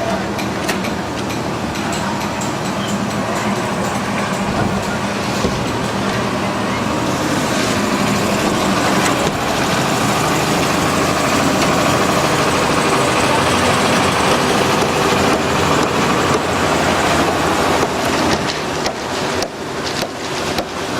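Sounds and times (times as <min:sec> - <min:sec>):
engine running: 0:00.0 - 0:20.9.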